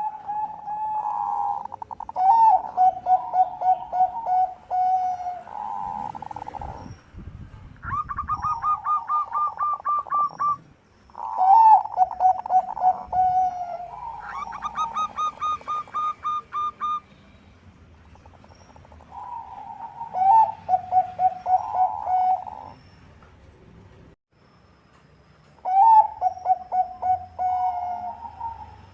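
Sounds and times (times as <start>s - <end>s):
doves cooing: 0.0s - 7.0s, 7.9s - 17.0s, 18.1s - 22.9s, 25.6s - 28.9s.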